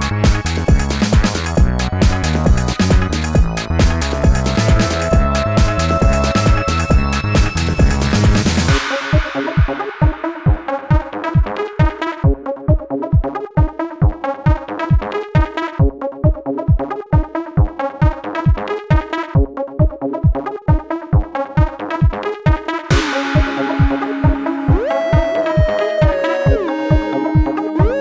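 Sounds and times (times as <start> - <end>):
electronic dance music: 0.0 - 28.0
four-on-the-floor kick drum: 0.0 - 28.0
synthesizer chords: 0.0 - 28.0.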